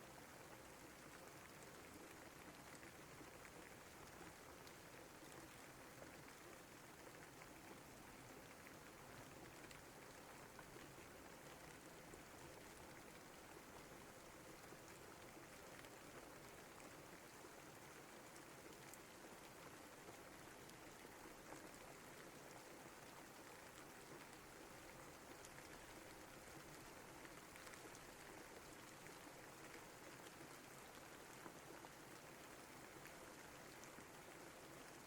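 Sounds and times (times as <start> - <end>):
faint steady rain: 0.0 - 35.0.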